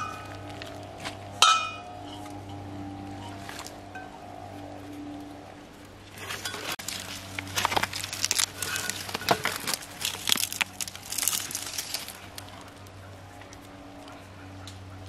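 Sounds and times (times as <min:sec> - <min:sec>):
crinkling and crackling: 0:00.0 - 0:15.0
steady low hum: 0:00.0 - 0:15.0.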